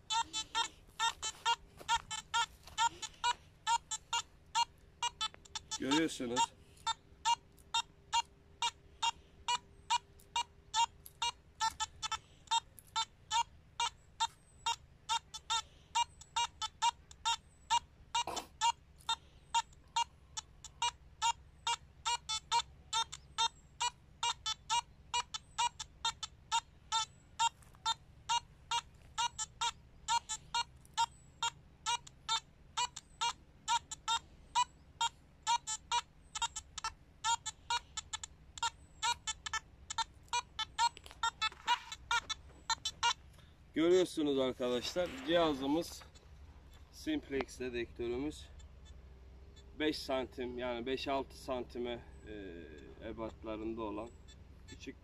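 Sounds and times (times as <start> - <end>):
metal detector beeping: 0.0 - 55.0.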